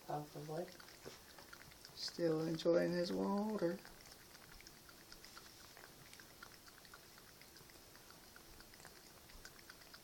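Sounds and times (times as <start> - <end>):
cat lapping water: 0.0 - 10.0
trickling faucet: 0.0 - 10.0.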